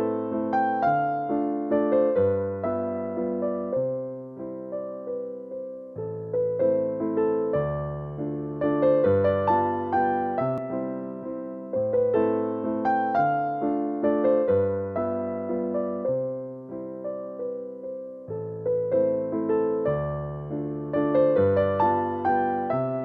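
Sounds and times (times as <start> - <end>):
electric piano melody: 0.0 - 23.0.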